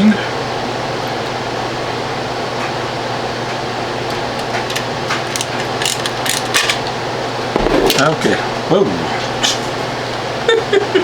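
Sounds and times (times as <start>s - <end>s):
fan air noise with hum: 0.0s - 11.0s.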